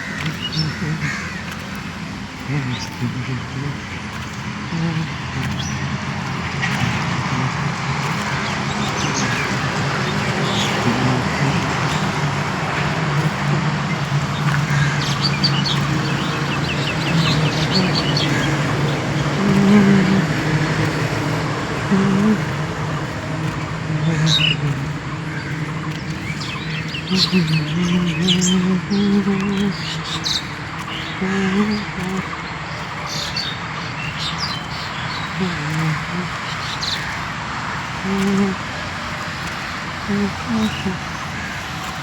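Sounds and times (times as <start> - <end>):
low voice: 0.0 - 37.2, 37.8 - 42.0
background rumble with low hum: 0.0 - 42.0
birds chirping: 0.0 - 42.0.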